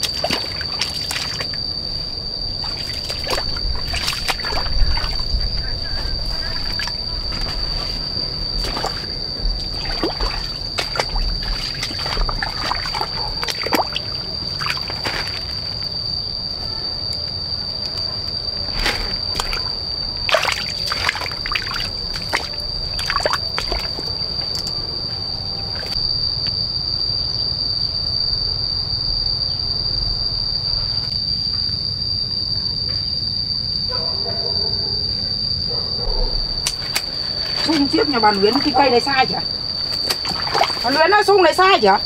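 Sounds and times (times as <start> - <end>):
high-pitched insect drone: 0.0 - 42.0.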